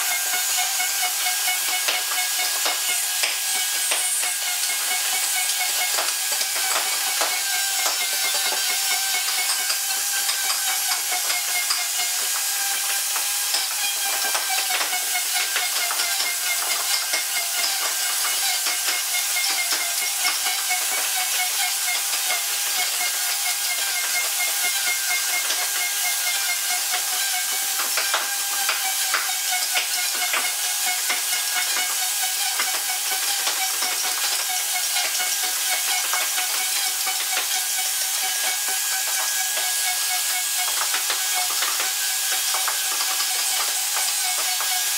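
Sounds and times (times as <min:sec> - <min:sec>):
router cutting wood: 0:00.0 - 0:44.9.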